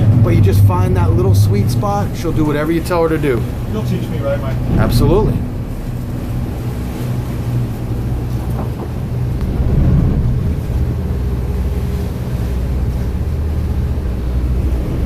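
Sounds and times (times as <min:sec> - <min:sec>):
boat engines humming: 0:00.0 - 0:15.0
wind buffeting microphone: 0:00.0 - 0:15.0.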